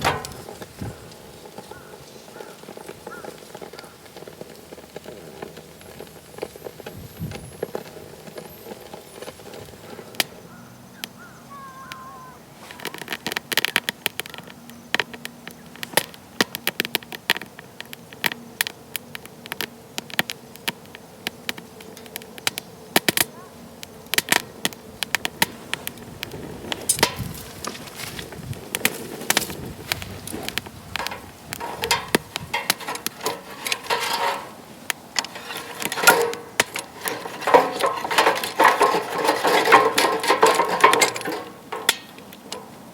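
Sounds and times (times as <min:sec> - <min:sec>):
wood fire crackling and popping: 0:00.0 - 0:10.4, 0:12.6 - 0:42.9.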